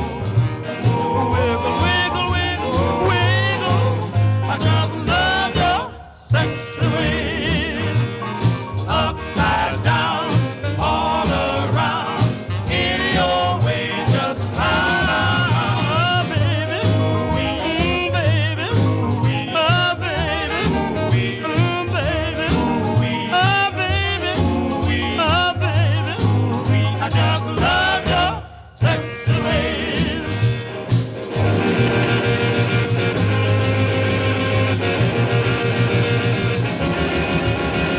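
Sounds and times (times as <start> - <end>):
pulsing bass beat: 0.0 - 28.4, 29.3 - 37.9
person singing: 0.0 - 30.6.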